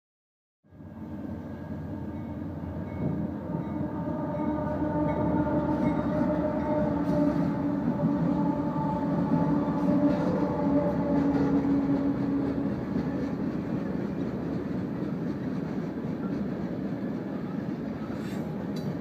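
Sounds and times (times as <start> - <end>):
diesel locomotive drone: 0.7 - 19.0
train wheels rumbling on rails: 0.8 - 19.0.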